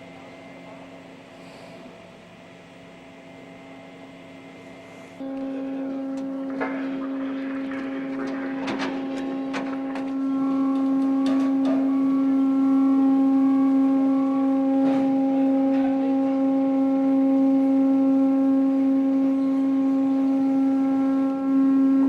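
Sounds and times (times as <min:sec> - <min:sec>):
loud machine drone: 0:03.5 - 0:22.0.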